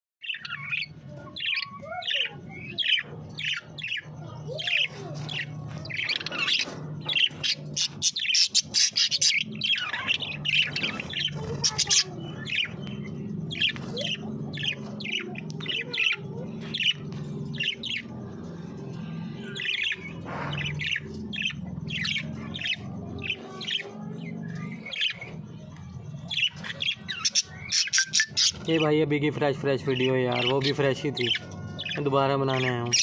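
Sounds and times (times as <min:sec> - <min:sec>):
small birds chirping: 0:00.2 - 0:33.0.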